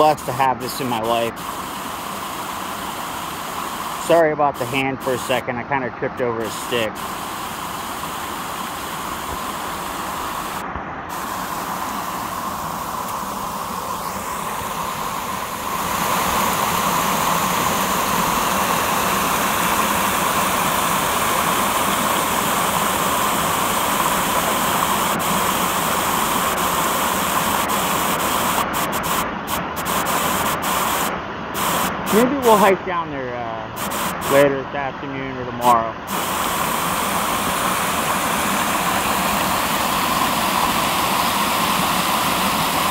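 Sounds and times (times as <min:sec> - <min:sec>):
water cascading down stream: 0:00.0 - 0:32.9, 0:35.5 - 0:42.9.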